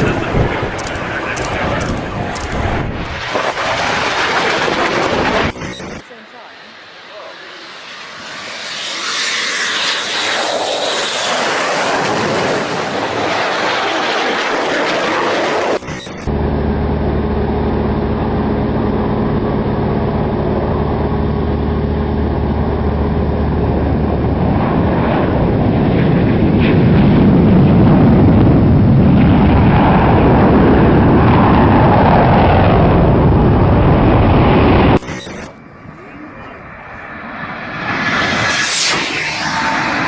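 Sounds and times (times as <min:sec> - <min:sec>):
aircraft engines droning: 0:00.0 - 0:40.0.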